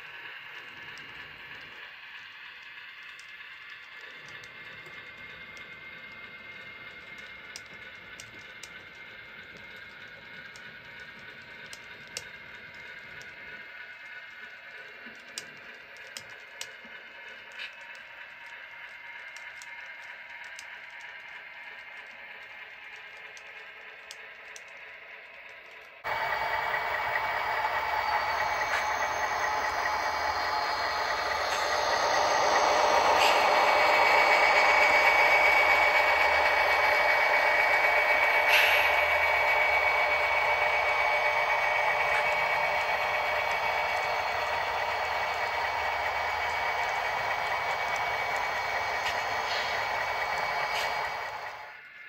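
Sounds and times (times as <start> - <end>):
wheels clicking: 0.0 - 51.7
model train cars rolling on track: 0.0 - 52.0.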